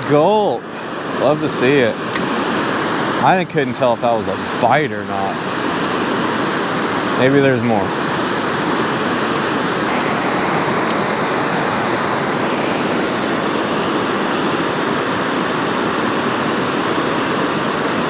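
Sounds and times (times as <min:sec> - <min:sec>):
water rushing through spillway: 0:00.0 - 0:18.0.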